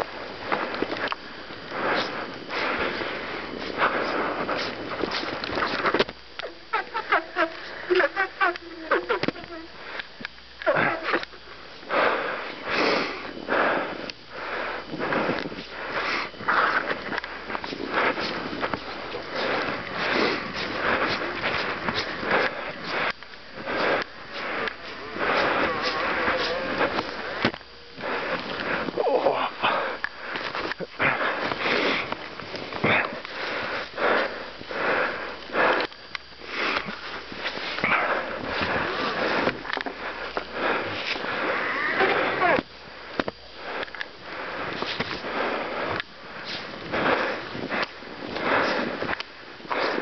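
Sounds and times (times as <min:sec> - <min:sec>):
person breathing hard: 0:00.0 - 0:50.0.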